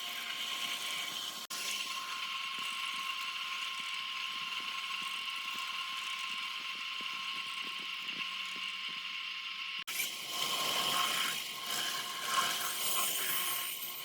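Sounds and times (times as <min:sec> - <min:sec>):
machine high-pitched whine: 0:00.0 - 0:14.0.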